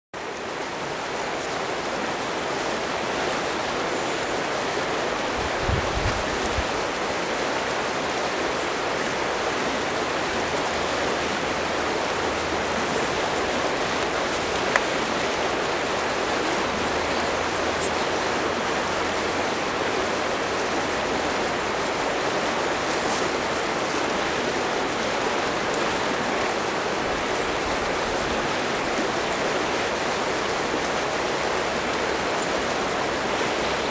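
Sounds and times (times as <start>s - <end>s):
river water rushing: 0.2s - 33.9s.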